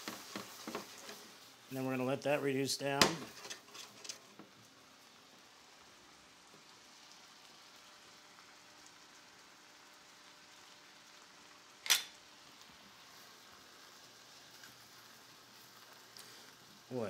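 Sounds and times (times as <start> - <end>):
pan sizzling: 0.0 - 17.0.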